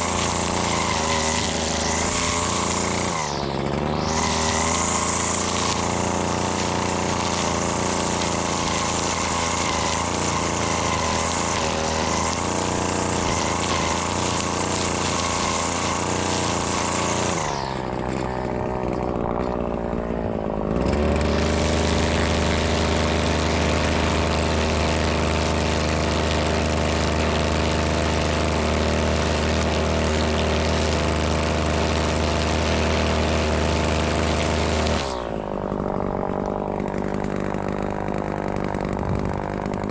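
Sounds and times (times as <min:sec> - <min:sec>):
string trimmer running: 0:00.0 - 0:39.9.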